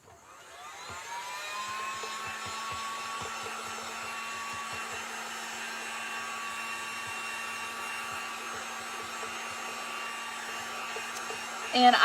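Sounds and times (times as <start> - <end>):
hot-air blower whining: 0.0 - 12.0.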